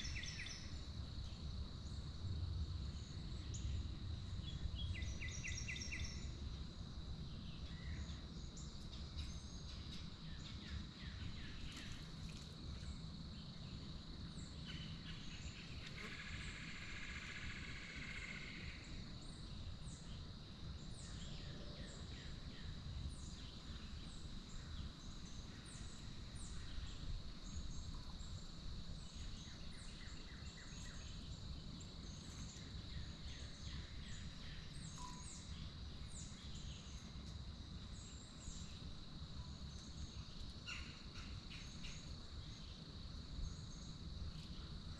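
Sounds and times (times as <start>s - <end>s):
low rumble of wind: 0.0s - 44.9s.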